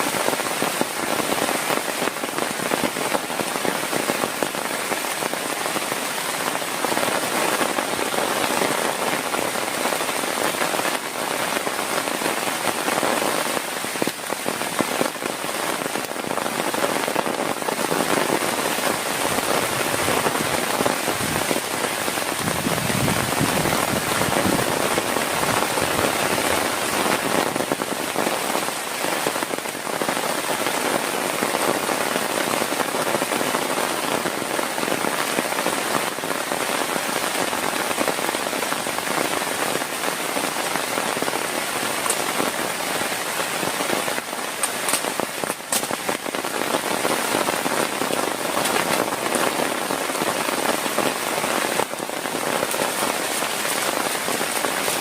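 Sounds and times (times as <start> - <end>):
heavy rain pattering: 0.0 - 55.0
sharp raindrop hits: 0.0 - 55.0.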